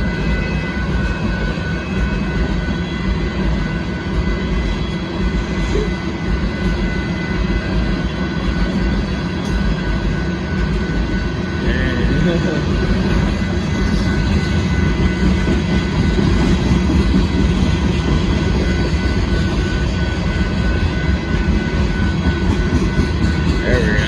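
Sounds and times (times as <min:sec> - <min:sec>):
freight cars rumbling on rails: 0:00.0 - 0:24.0.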